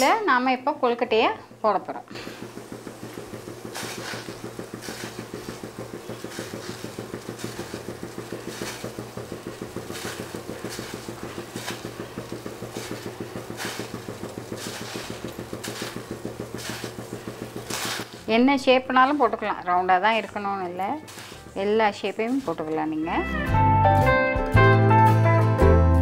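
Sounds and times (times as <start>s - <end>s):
water boiling: 0.0s - 23.2s.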